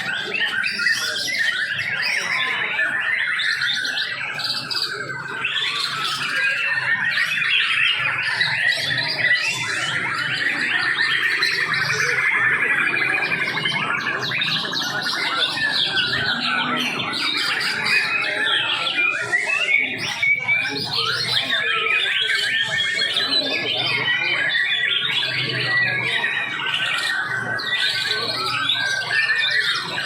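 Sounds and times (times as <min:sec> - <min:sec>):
many songbirds chirping and trilling: 0:00.0 - 0:30.0.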